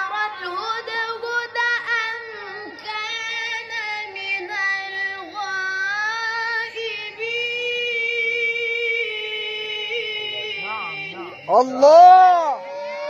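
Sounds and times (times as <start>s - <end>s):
boy chanting over a microphone: 0.0s - 13.0s.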